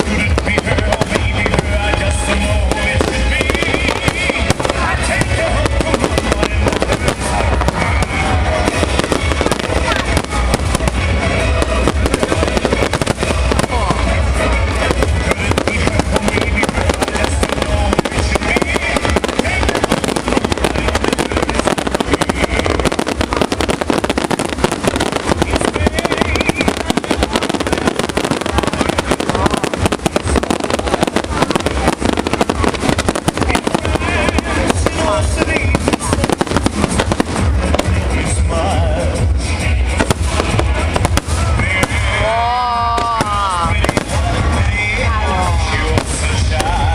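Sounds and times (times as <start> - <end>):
fireworks cracking and banging: 0.0 - 46.9
heavy low rumble: 0.0 - 46.9
music playing: 0.0 - 46.9.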